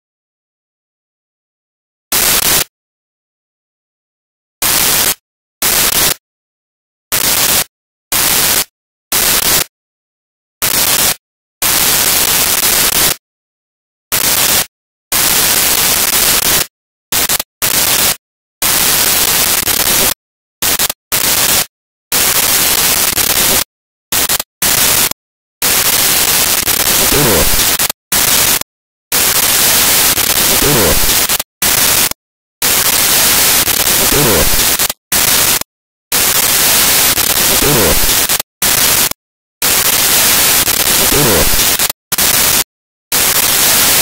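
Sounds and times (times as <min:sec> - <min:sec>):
bursts of static hiss: 0:02.1 - 0:02.7, 0:04.6 - 0:06.2, 0:07.1 - 0:09.7, 0:10.6 - 0:13.2, 0:14.1 - 0:44.0.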